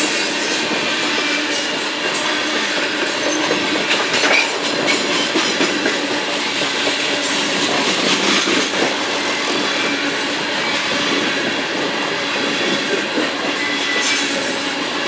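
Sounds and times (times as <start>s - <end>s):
clickety-clack over rail joints: 0.0s - 15.0s
train wheels rumbling on rails: 0.0s - 15.0s.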